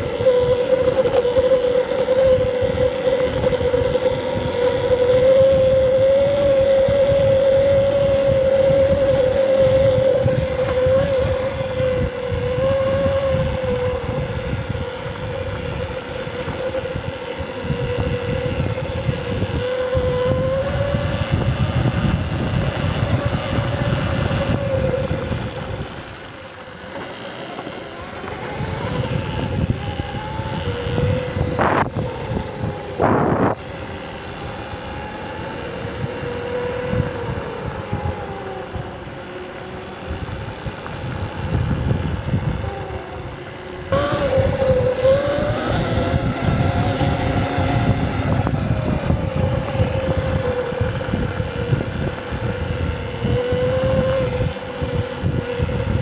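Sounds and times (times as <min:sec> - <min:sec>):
electric motor whine: 0:00.0 - 0:56.0
rumble of tyres and wind: 0:00.0 - 0:56.0.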